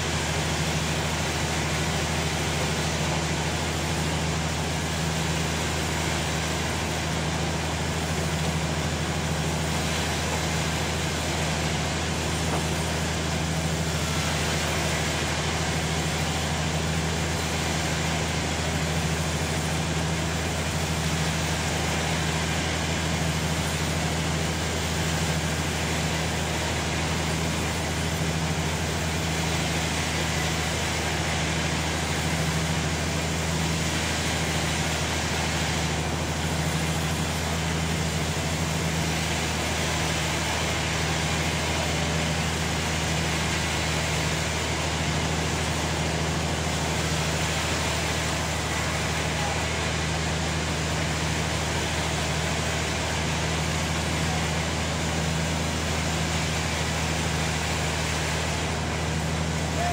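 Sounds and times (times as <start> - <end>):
sawmill machine hum: 0.0 - 59.9.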